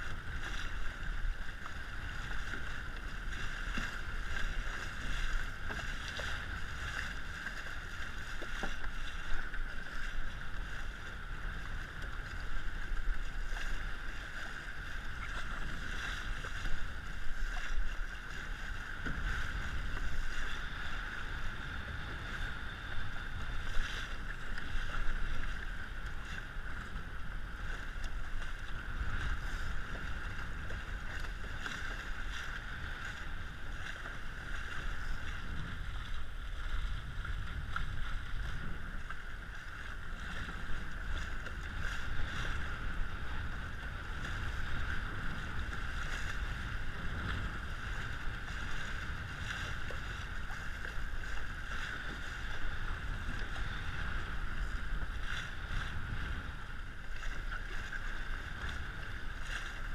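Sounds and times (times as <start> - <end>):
water rushing along hull: 0.0 - 59.9
wind buffeting microphone: 0.0 - 59.9.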